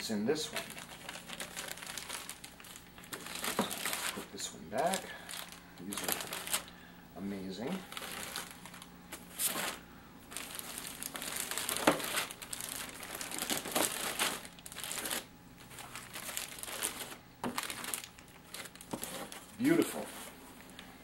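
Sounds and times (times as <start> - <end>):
plastic bags crinkling: 0.0 - 6.9, 7.6 - 21.0.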